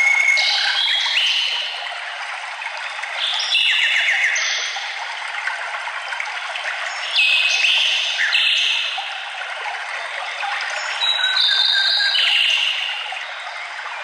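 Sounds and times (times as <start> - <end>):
songbirds singing: 0.0 - 2.0, 2.6 - 5.1, 6.2 - 14.0
water trickling: 0.0 - 14.0.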